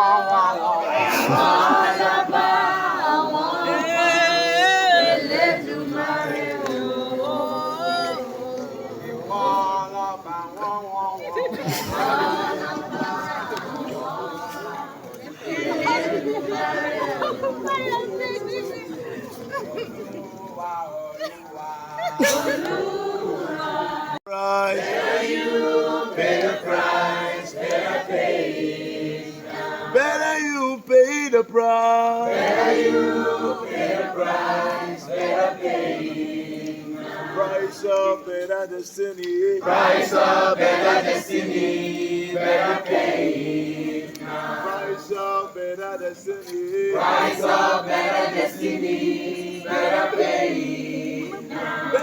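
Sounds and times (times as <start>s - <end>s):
group singing unaccompanied: 0.0s - 52.0s.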